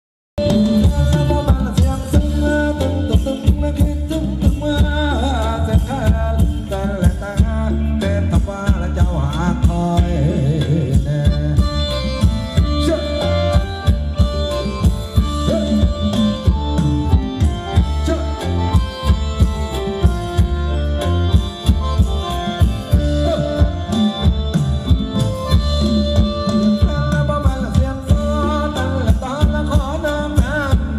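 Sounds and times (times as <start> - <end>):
driving drum beat: 0.4 - 30.9
live dance band over loudspeakers: 0.4 - 30.9.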